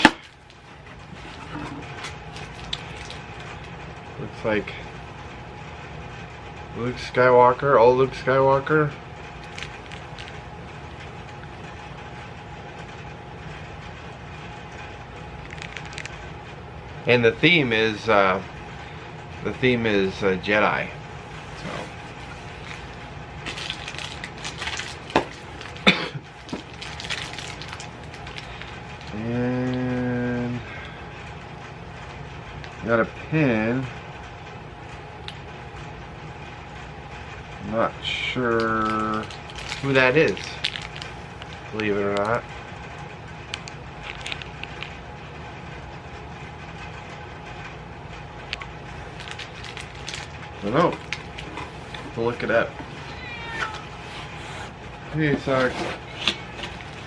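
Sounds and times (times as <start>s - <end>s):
low background rumble: 0.1s - 17.7s, 18.4s - 33.3s, 39.2s - 57.0s.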